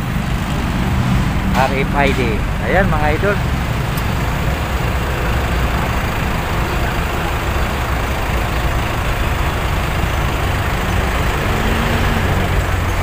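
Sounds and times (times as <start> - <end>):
road traffic engine rumble: 0.0 - 13.0.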